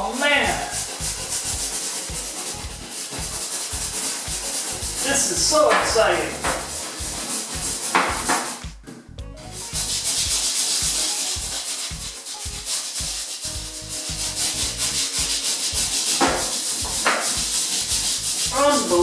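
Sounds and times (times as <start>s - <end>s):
hand rubbing wet surface: 0.0s - 8.7s, 9.6s - 19.0s.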